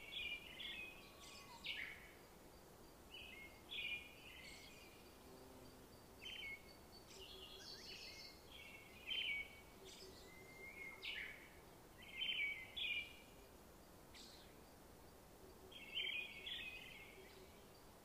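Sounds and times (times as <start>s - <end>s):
small birds chirping: 0.0s - 14.8s, 15.5s - 18.0s.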